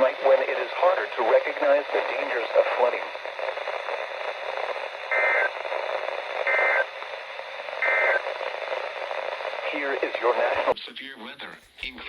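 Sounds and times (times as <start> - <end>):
radio broadcast hiss: 0.0 - 12.0.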